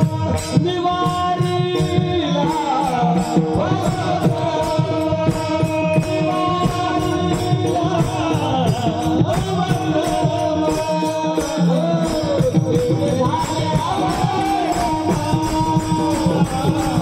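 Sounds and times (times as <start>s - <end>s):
drum strokes: 0.0s - 17.0s
jingling percussion: 0.0s - 17.0s
person singing devotional song: 0.0s - 17.0s.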